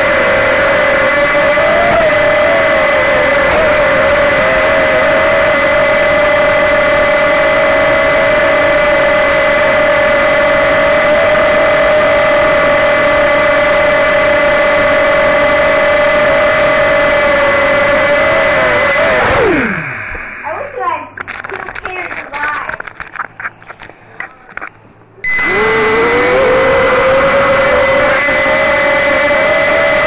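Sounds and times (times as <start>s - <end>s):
quadcopter motors whining: 0.0s - 20.4s, 25.2s - 30.0s.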